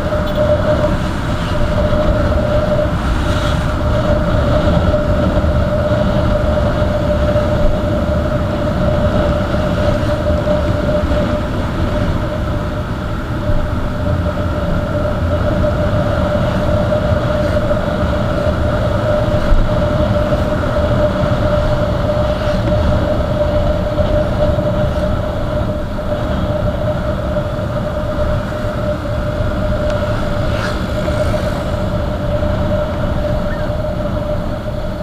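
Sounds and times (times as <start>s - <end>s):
motorcycle engine drone: 0.0s - 35.0s
wind rumble on microphone: 0.0s - 35.0s.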